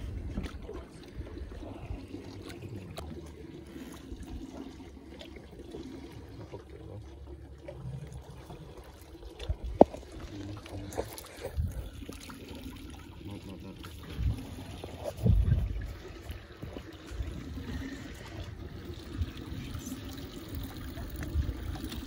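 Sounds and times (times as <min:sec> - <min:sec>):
water lapping against boat: 0:00.0 - 0:22.0.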